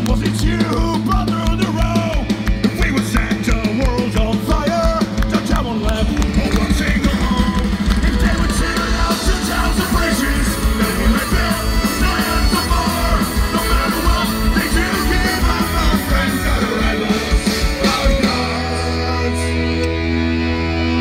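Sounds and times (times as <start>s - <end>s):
drums fast steady beat: 0.0s - 19.6s
live rock band playing: 0.0s - 21.0s
person singing: 0.0s - 21.0s.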